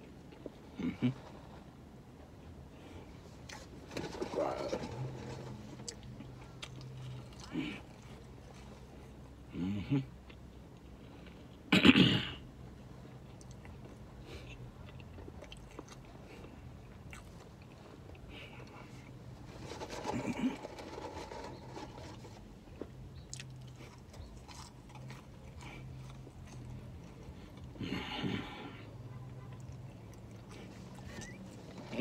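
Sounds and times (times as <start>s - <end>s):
chewing a hamburger: 3.4s - 11.7s, 12.8s - 28.7s, 29.4s - 32.0s.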